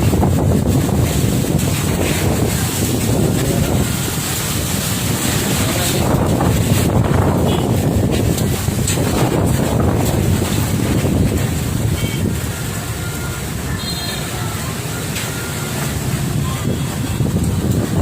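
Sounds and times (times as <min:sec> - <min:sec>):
strong wind gusting on microphone: 0:00.0 - 0:13.7, 0:14.7 - 0:18.0.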